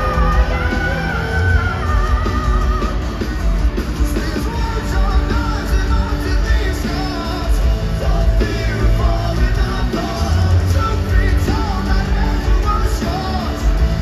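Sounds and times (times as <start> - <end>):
bass guitar: 0.0 - 14.0
drums: 0.0 - 14.0
electric guitars: 0.0 - 14.0
lead singer singing: 0.0 - 14.0.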